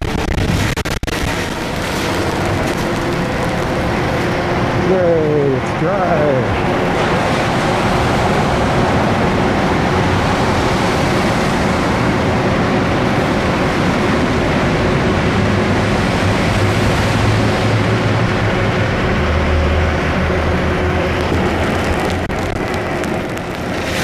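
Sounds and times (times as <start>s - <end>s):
bicycle road noise: 0.0s - 24.0s
low hum: 0.0s - 24.0s
wind rush: 0.0s - 24.0s.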